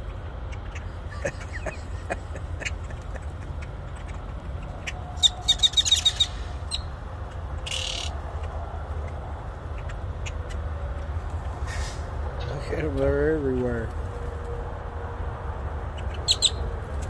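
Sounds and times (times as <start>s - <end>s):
birds calling: 0.0s - 14.0s, 15.8s - 17.0s
steady low rumble: 0.0s - 17.0s.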